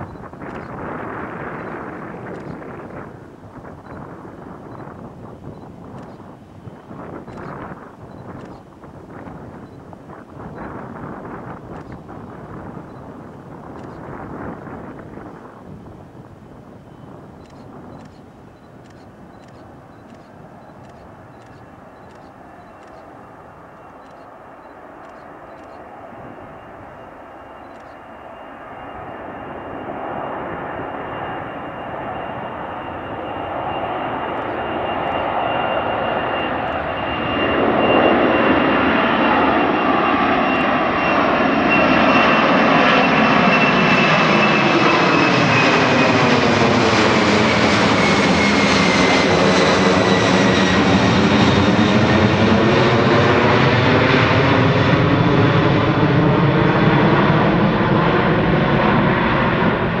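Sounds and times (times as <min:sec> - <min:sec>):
high engine whine: 0:00.0 - 1:00.0
jet engines roaring overhead: 0:00.0 - 1:00.0.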